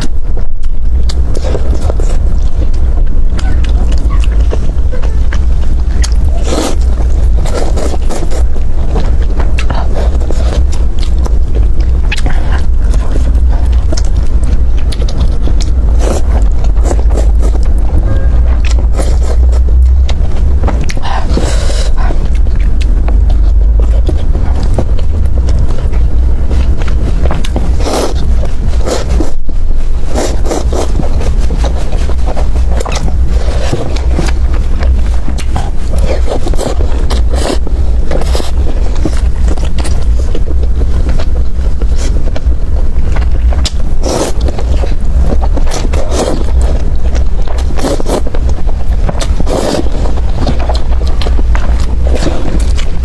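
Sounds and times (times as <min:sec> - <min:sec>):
chewing with crisp crunches: 0:00.0 - 0:53.0
low rumble: 0:00.0 - 0:53.0.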